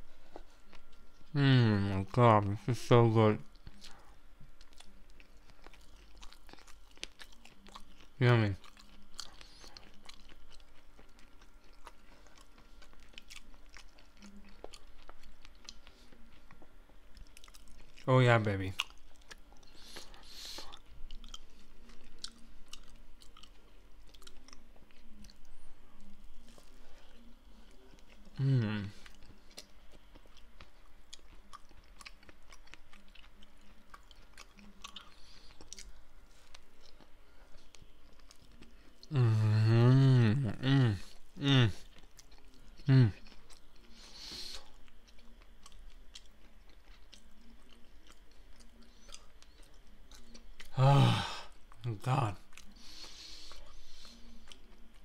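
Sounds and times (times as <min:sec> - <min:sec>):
man chewing: 0:00.0 - 0:02.2, 0:03.4 - 0:55.0.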